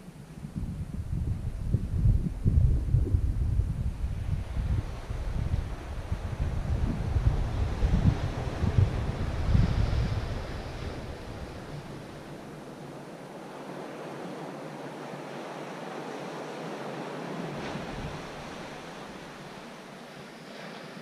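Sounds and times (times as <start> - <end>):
ocean surf on rocky shore: 1.4 - 21.0.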